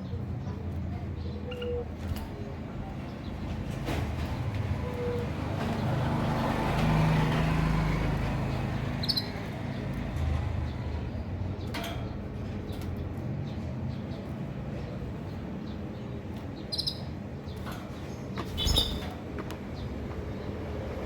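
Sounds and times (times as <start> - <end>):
traffic running past: 0.0 - 21.0.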